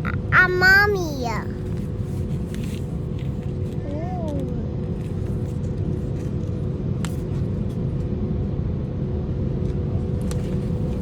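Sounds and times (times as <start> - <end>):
aircraft cabin drone: 0.0 - 11.0
steady hum: 0.0 - 11.0.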